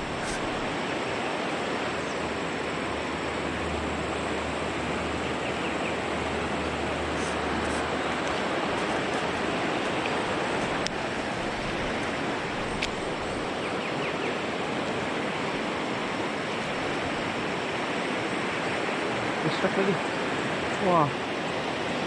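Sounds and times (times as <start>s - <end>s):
flowing stream water: 0.0s - 22.0s.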